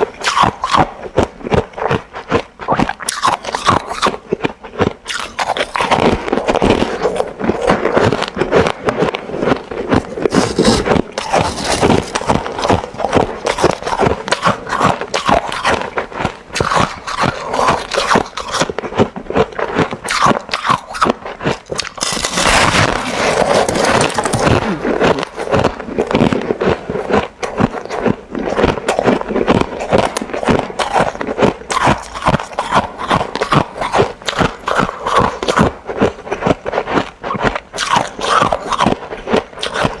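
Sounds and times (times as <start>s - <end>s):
ice being chewed: 0.0s - 40.0s.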